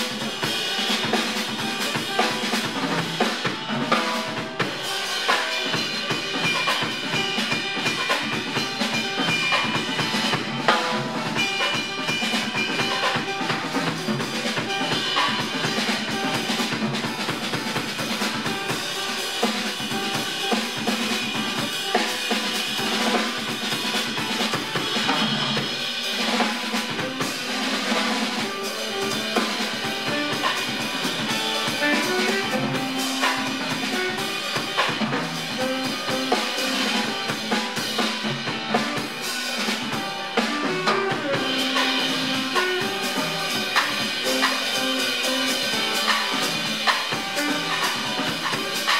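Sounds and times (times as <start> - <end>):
drum kit: 0.0 - 48.9
jazz quartet playing live: 0.0 - 48.9.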